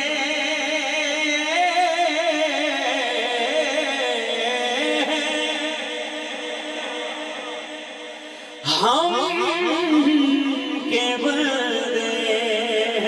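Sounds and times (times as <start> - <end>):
man singing melismatic note: 0.0 - 13.0.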